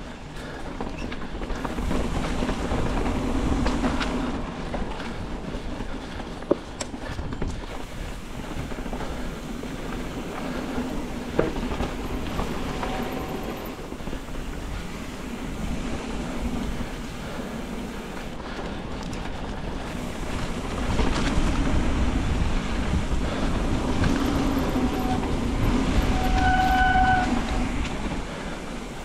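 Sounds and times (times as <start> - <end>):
mountain bike rolling rumble: 0.0 - 29.0.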